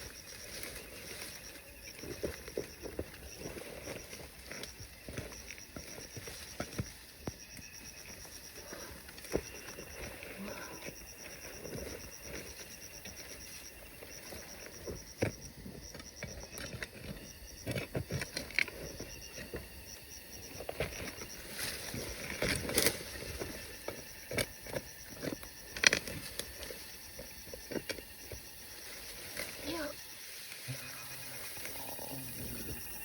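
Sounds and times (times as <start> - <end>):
insect chirping: 0.0 - 33.0.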